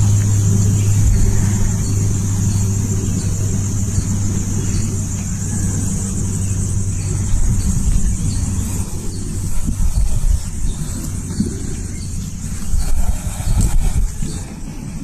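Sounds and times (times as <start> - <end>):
motorcycle engine running: 0.0 - 14.4
high-pitched hiss: 0.0 - 15.0.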